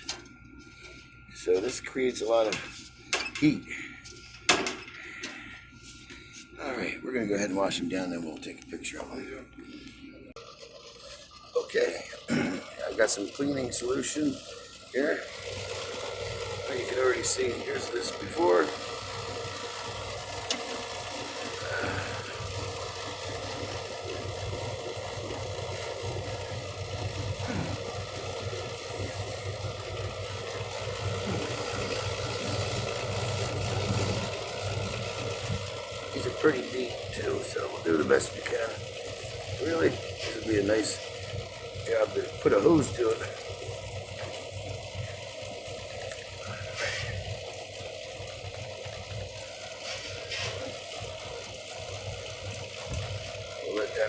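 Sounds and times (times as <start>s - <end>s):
refrigeration unit humming: 0.0s - 54.0s
even hiss: 1.3s - 54.0s.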